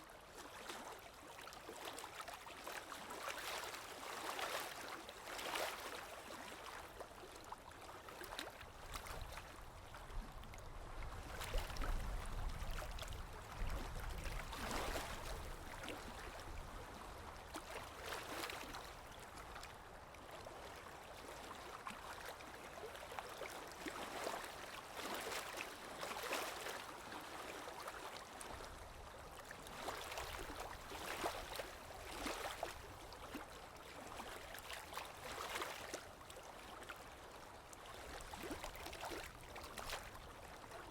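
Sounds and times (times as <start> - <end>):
small waves lapping and splashing: 0.0 - 40.9.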